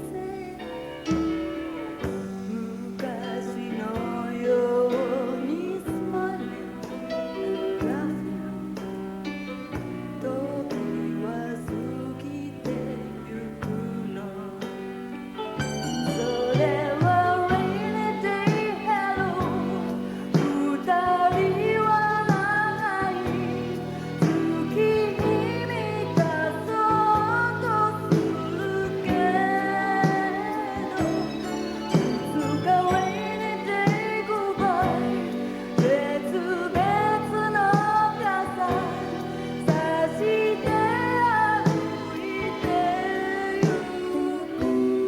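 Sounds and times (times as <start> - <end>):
woman singing: 0.0 - 9.1, 9.8 - 15.2, 16.0 - 45.0
live band accompaniment: 0.0 - 45.0.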